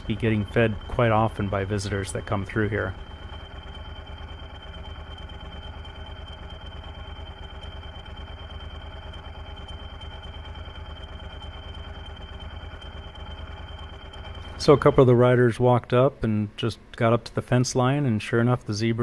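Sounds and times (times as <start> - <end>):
motorcycle engines idling: 0.0 - 15.4
thin high tone: 0.0 - 15.7.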